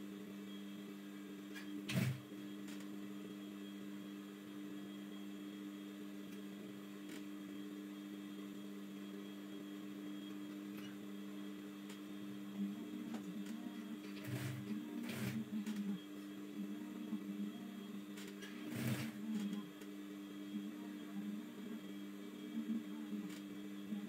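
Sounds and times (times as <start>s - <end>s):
sewing machine motor hum: 0.0s - 17.2s, 17.8s - 24.0s.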